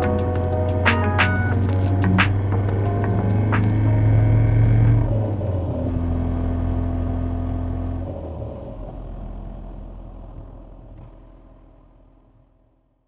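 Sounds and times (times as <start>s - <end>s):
road rumble: 0.0s - 12.0s
car engine running: 0.0s - 12.4s.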